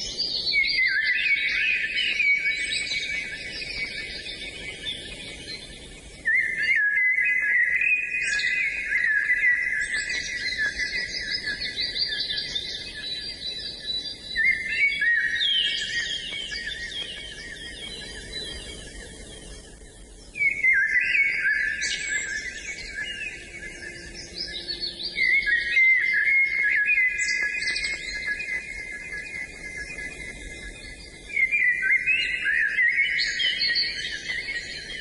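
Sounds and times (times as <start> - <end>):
songbird twittering and trilling: 0.0 - 35.0.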